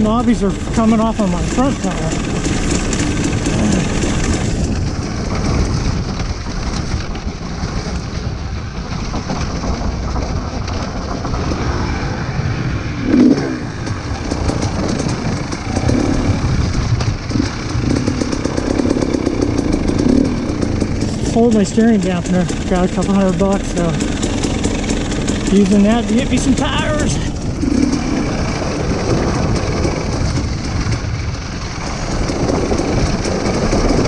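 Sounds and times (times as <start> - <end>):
dirt bike engine: 0.0 - 34.0.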